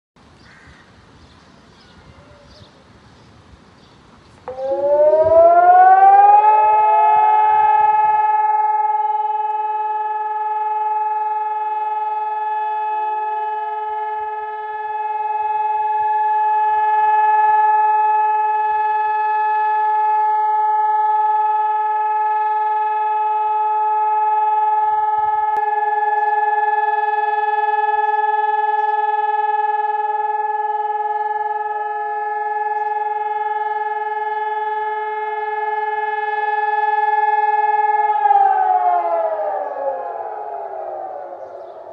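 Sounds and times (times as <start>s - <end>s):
fainter distant siren: 1.8s - 3.6s, 4.3s - 41.9s
public siren steady tone: 4.4s - 41.9s.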